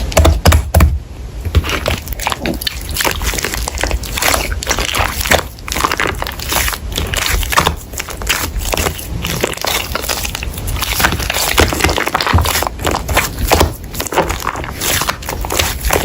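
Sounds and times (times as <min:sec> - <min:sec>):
slime squishing with wet pops: 0:01.6 - 0:16.0.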